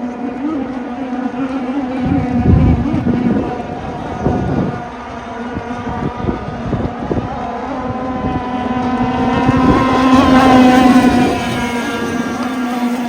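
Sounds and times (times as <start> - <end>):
model boat engine running: 0.0 - 13.0.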